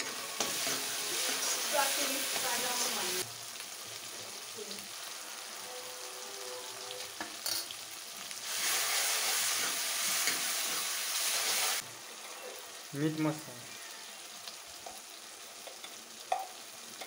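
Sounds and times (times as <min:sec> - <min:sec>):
masala sizzling in a pan: 0:00.0 - 0:17.0.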